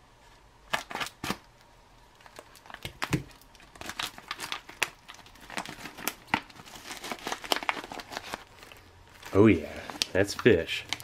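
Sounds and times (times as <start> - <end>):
foil pouch tearing and crinkling: 0.7 - 11.0.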